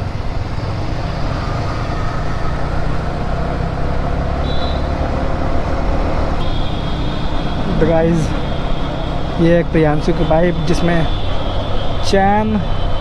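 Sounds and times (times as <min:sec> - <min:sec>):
motorcycle engine running: 0:00.0 - 0:13.0
traffic noise: 0:00.0 - 0:13.0
wind: 0:00.0 - 0:13.0.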